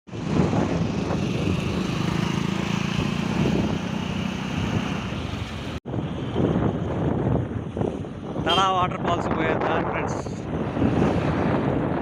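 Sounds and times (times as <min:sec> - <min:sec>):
wind over microphone: 0:00.1 - 0:12.0.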